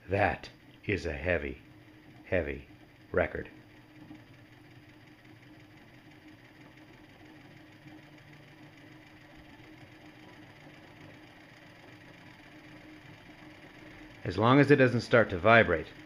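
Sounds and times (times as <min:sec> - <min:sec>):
turntable motor hum: 0:00.0 - 0:16.0.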